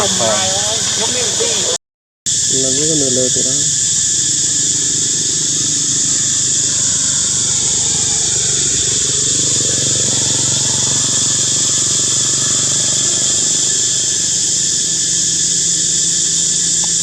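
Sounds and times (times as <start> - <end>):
engine humming: 0.0 - 16.3
high-pitched hiss: 0.0 - 17.0.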